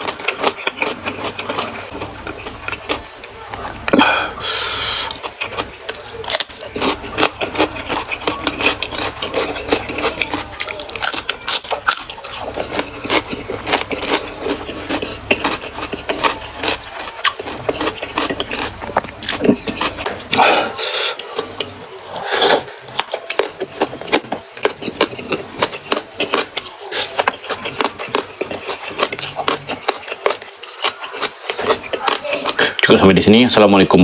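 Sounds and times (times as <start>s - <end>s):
crunching of raw vegetables chewed: 0.0s - 34.0s.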